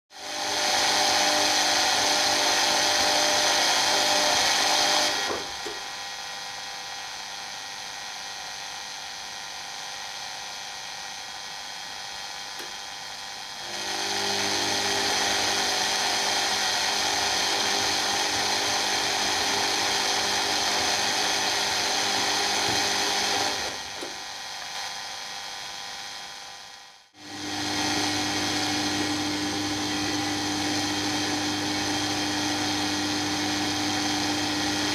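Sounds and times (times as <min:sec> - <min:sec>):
washing machine motor whining: 0:00.1 - 0:06.5, 0:12.2 - 0:26.4, 0:27.2 - 0:34.9.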